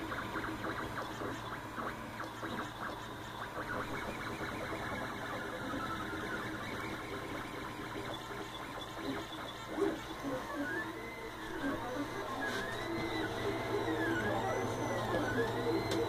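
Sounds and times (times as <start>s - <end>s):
steady low hum: 0.0s - 16.0s
stepper motors buzzing: 0.0s - 16.0s.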